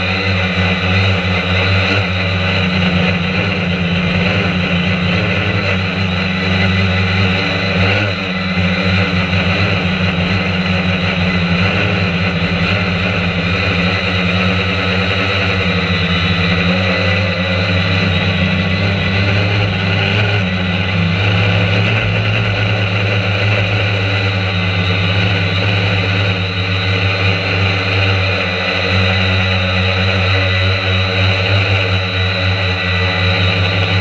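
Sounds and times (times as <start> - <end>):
drone propellers buzzing: 0.0 - 34.0.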